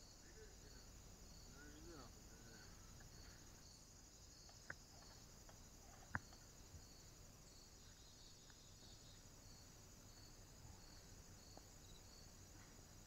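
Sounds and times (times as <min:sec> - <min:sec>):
high insect-like chirring: 0:00.0 - 0:13.0.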